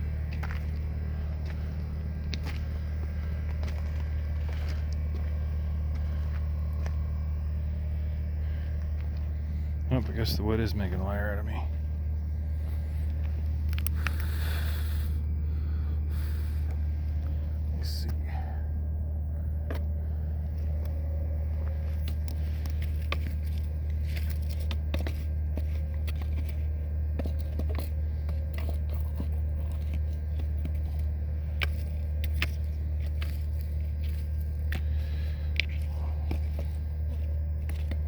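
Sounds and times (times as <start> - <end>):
campfire wood crackling: 0.0 - 18.1, 19.6 - 38.0
low hum: 0.0 - 38.0.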